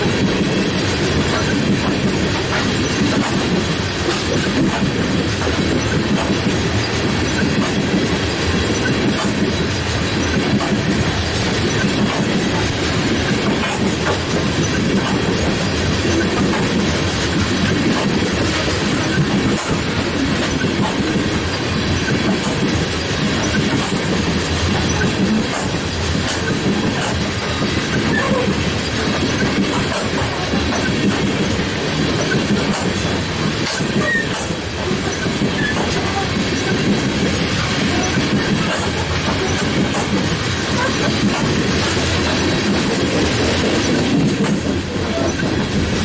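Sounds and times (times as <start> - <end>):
train wheels rolling on rails: 0.0 - 46.0.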